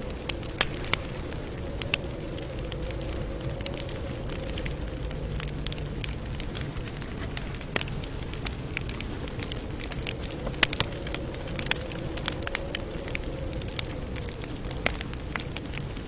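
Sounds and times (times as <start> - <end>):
campfire crackling and popping: 0.0 - 16.0
flames rustling: 0.0 - 16.0.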